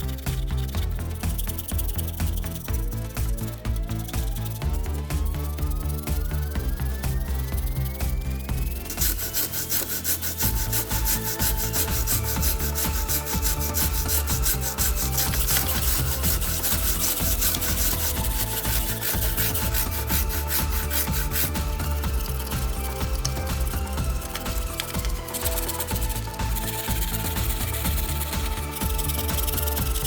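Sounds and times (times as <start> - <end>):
abrasive rasping back and forth: 0.0 - 30.0
background music: 0.0 - 30.0.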